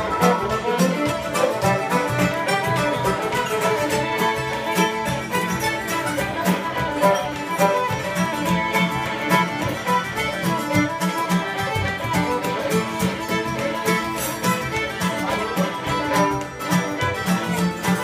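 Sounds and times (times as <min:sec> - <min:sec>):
string instrumental music: 0:00.0 - 0:18.0.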